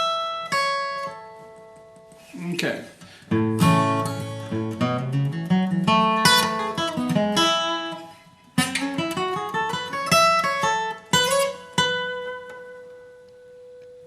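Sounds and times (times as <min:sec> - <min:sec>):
acoustic guitar bluegrass picking: 0:00.0 - 0:13.8.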